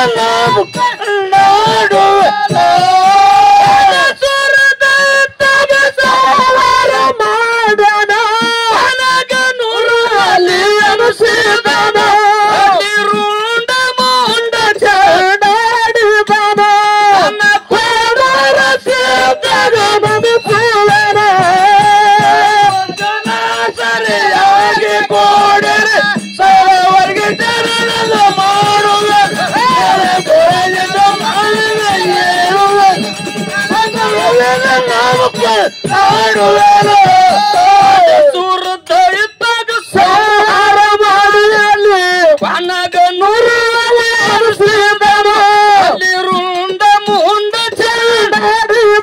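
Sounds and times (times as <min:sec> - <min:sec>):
man singing into microphone: 0:00.0 - 0:49.0.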